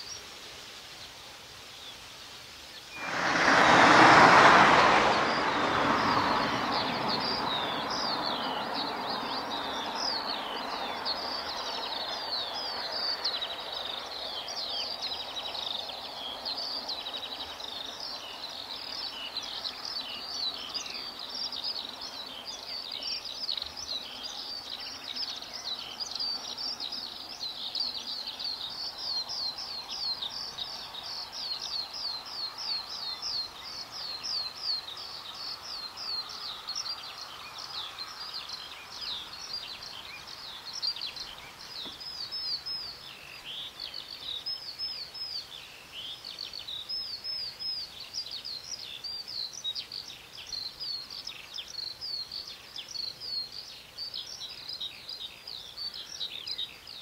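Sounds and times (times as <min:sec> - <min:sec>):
birds chirping: 0:02.7 - 0:57.0.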